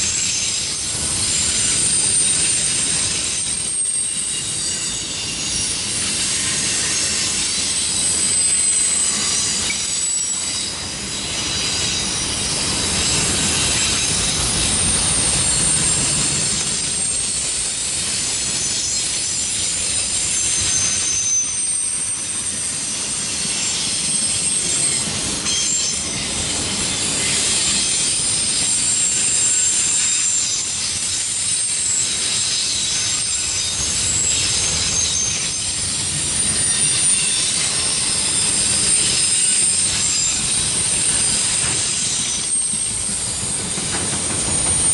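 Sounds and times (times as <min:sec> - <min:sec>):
steel wheels rumbling on rails: 0:00.0 - 0:44.9
high-pitched wheel squeal: 0:00.2 - 0:44.9.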